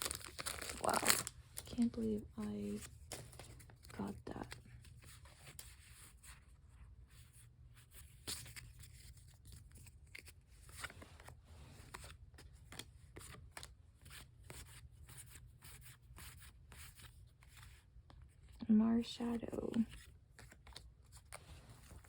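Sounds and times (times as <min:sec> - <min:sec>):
cards and wrappers rustling: 0:00.0 - 0:06.4, 0:07.9 - 0:18.6, 0:19.2 - 0:22.0.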